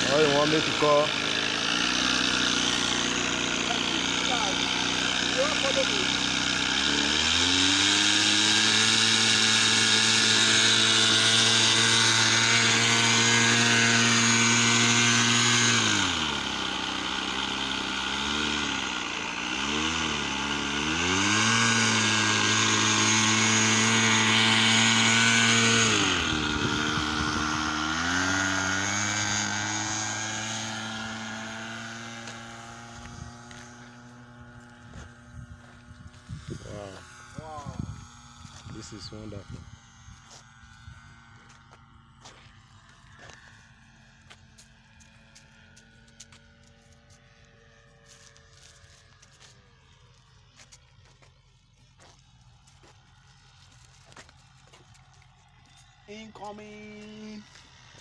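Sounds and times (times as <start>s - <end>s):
model airplane motor and propeller: 0.0s - 58.0s.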